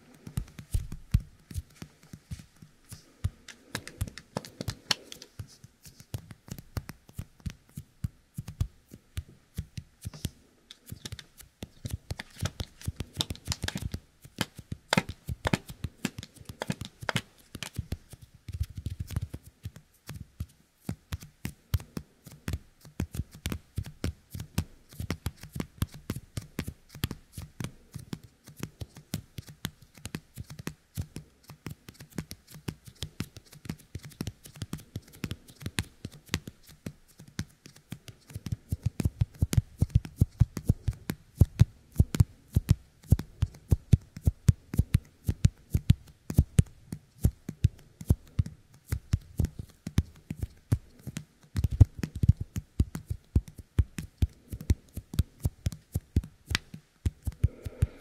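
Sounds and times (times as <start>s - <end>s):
sticky fingertips crackling: 0.0s - 58.0s.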